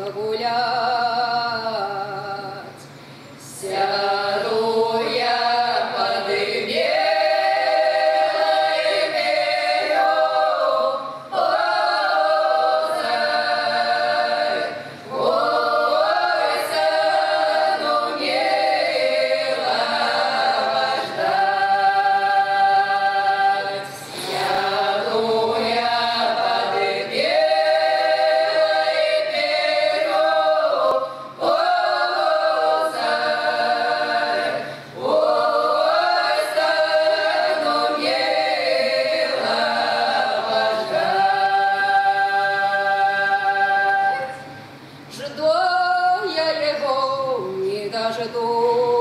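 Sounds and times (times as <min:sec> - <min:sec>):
women's choir singing a cappella: 0:00.0 - 0:02.8, 0:03.4 - 0:49.0.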